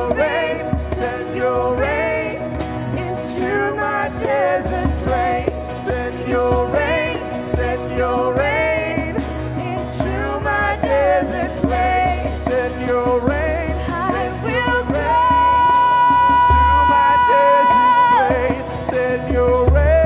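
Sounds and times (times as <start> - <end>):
band accompaniment: 0.0 - 20.0
woman singing: 0.0 - 20.0.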